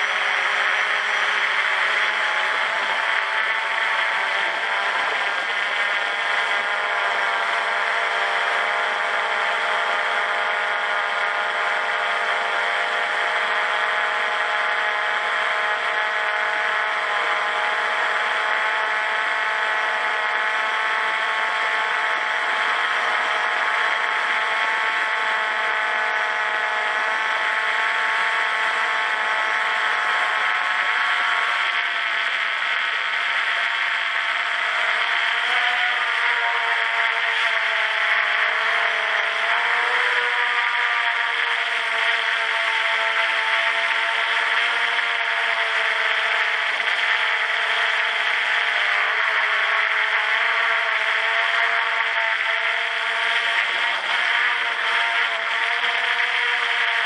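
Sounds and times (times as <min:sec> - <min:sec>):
drone propellers whining: 0:00.0 - 0:57.0.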